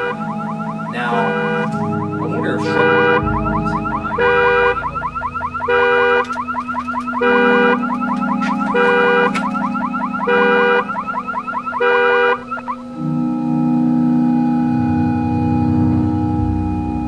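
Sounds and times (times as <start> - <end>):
car alarm steady tone: 0.0 - 17.0
car alarm warbling chirp: 0.0 - 17.0
low steady hum: 0.0 - 17.0.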